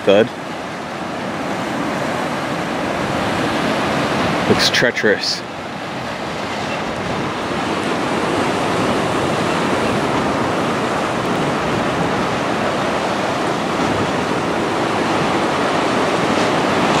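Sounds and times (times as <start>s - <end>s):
waves washing over rocky shore: 0.0s - 17.0s.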